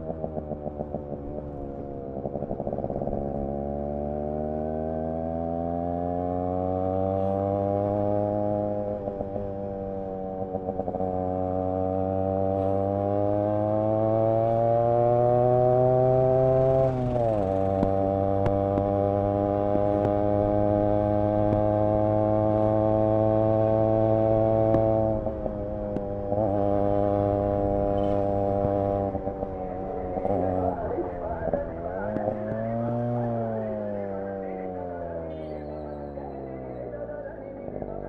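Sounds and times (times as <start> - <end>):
two-stroke motorcycle engine running: 0.0 - 38.0.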